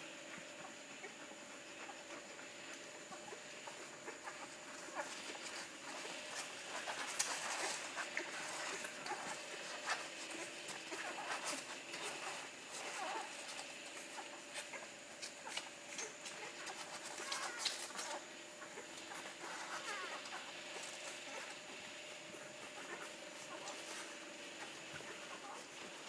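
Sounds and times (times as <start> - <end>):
puppies suckling: 0.2 - 26.0.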